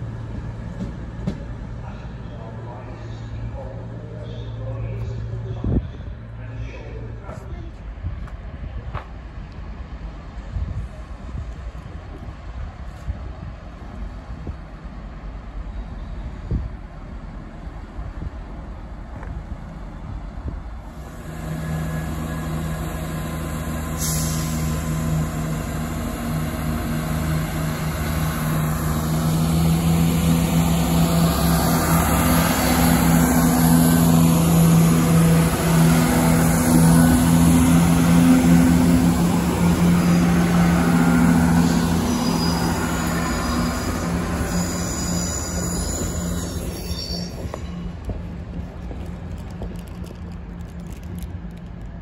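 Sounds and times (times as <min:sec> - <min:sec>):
diesel train engines droning: 0:00.0 - 0:52.0.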